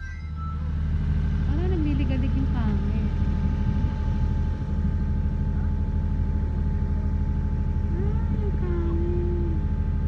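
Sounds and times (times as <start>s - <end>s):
car engine and road drone: 0.0s - 10.0s.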